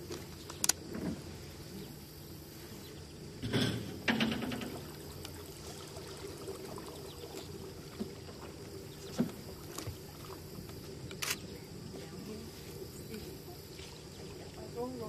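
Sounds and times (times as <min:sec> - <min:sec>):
paddle strokes and drips: 0:00.0 - 0:15.0.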